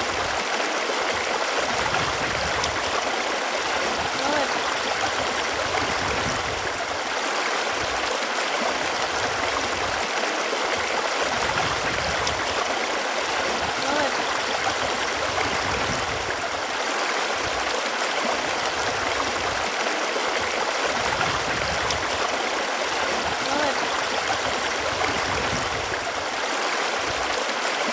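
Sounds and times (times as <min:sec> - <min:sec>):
running water gurgling: 0:00.0 - 0:27.9.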